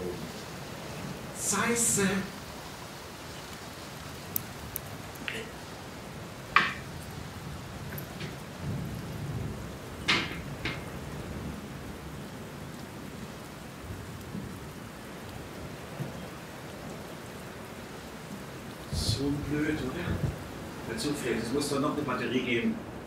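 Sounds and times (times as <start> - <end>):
rain hiss: 0.0 - 23.0.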